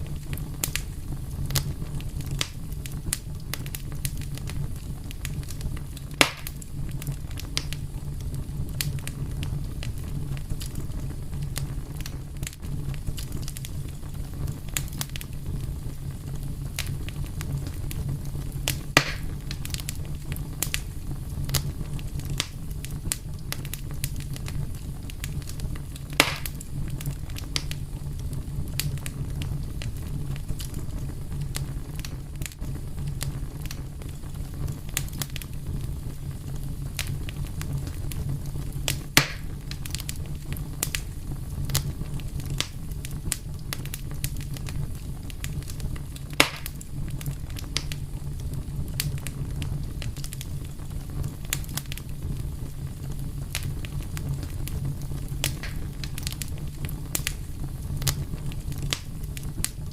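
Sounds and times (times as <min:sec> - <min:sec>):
fire crackles and pops: 0:00.0 - 0:59.9
wood fire rumbling: 0:00.0 - 0:59.9.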